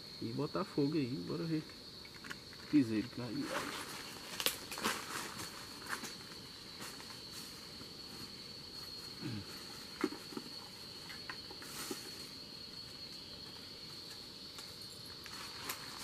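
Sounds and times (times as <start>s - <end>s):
high insect call: 0.0s - 16.0s.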